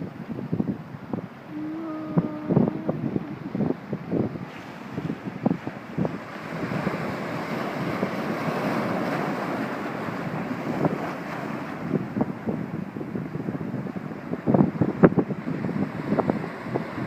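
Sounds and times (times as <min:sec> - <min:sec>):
waves rushing: 0:00.0 - 0:17.0
wind buffeting microphone: 0:00.0 - 0:17.0.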